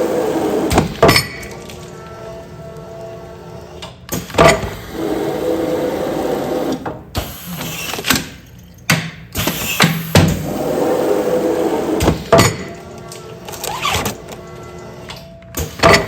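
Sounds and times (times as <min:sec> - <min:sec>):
machine whirring: 0:00.0 - 0:08.3, 0:09.3 - 0:16.0.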